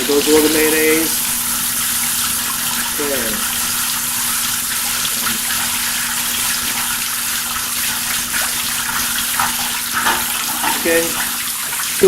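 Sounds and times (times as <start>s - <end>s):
tap water spraying into strainer: 0.0s - 12.0s.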